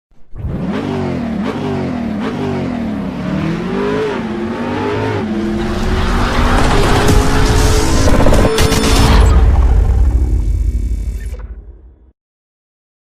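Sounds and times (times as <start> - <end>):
car engine revving: 0.2 - 11.1.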